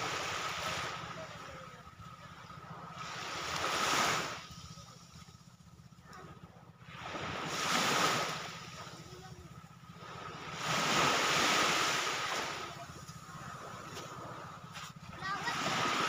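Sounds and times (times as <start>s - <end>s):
sea waves breaking on beach: 0.0s - 5.2s, 6.1s - 16.0s.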